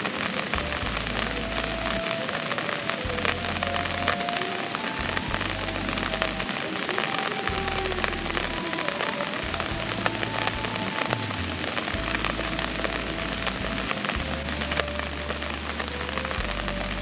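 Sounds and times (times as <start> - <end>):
rain falling: 0.0 - 17.0
soft background music: 0.0 - 17.0.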